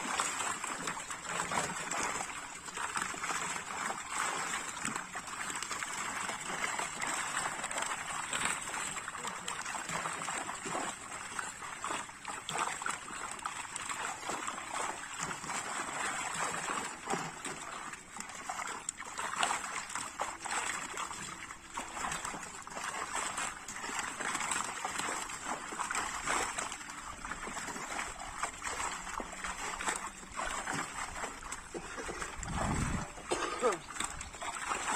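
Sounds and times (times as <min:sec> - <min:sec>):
fish thrashing and splashing in net: 0:00.0 - 0:09.2, 0:09.8 - 0:34.9.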